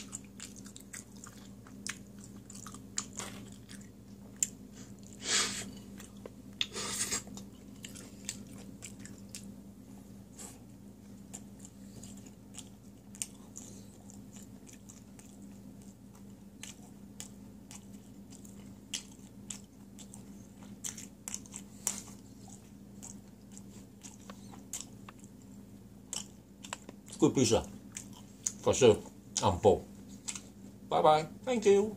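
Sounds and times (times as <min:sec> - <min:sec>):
chewing pizza: 0:00.0 - 0:30.9
steady low hum: 0:00.0 - 0:31.9.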